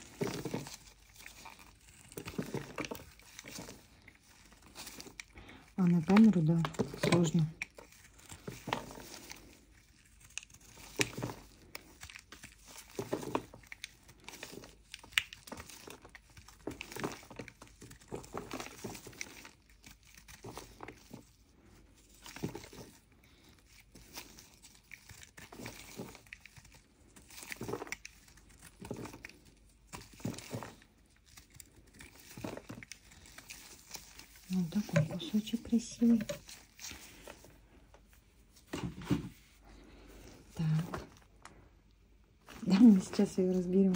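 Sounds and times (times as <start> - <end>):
clay crumbling: 0.0 - 43.9.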